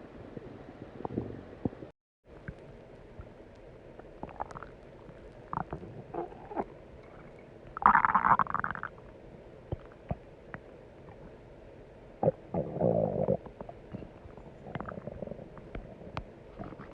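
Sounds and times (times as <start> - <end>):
stomach rumbling: 0.0 - 11.5, 12.1 - 16.9.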